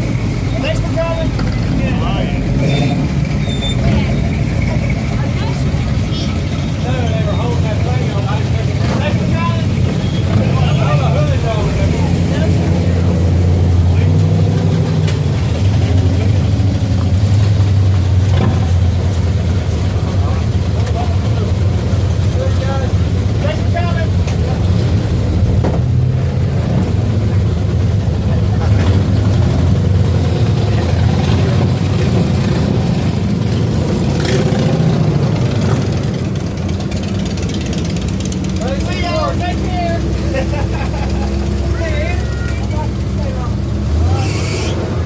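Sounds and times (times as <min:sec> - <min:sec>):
car engine rumbling: 0:00.0 - 0:45.0.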